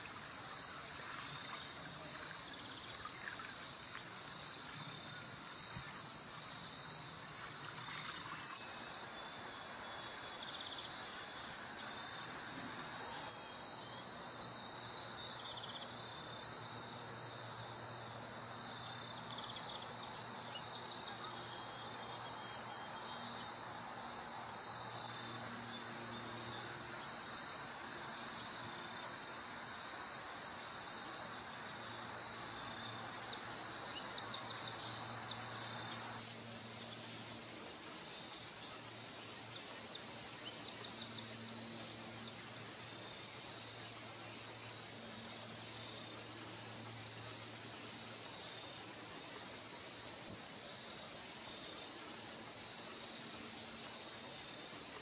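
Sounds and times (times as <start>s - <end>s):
insects trilling: 0.0s - 55.0s
steady rushing hiss: 0.0s - 55.0s.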